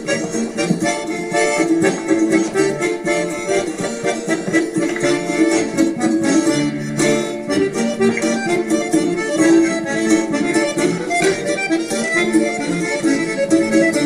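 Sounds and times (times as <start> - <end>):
instrumental music with beat: 0.0 - 14.0.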